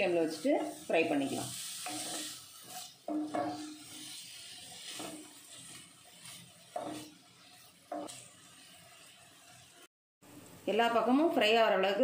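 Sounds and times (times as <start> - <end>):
spatula scraping and knocking pan: 0.0 - 9.9
cheese sizzling in oil: 0.0 - 12.0.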